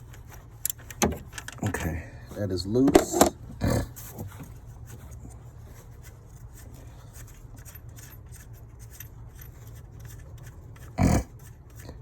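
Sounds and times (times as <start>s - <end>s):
socket wrench scraping and ticking: 0.0s - 2.0s, 2.8s - 4.6s, 5.9s - 12.0s
steady low hum: 0.0s - 12.0s.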